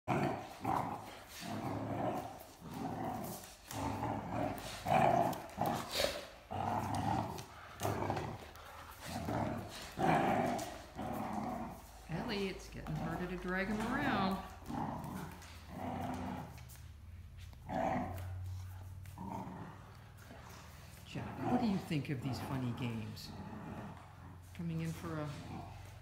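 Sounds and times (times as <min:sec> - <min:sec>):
dogs growling in play: 0:00.0 - 0:26.0.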